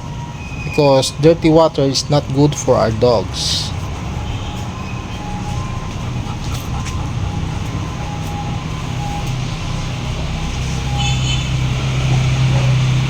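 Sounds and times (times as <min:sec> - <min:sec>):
low machine hum: 0:02.1 - 0:13.0.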